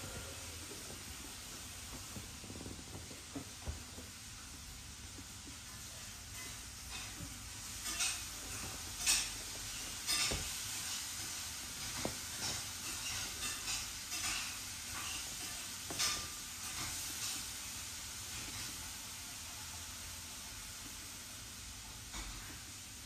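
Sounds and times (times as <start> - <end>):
soft rustles: 0.0 - 18.9
faint steady hiss: 0.0 - 23.0.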